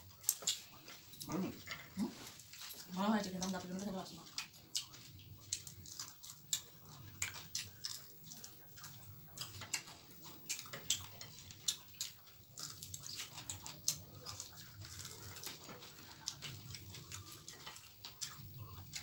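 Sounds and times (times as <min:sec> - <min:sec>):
chewing crunchy fried food: 0:00.0 - 0:19.0.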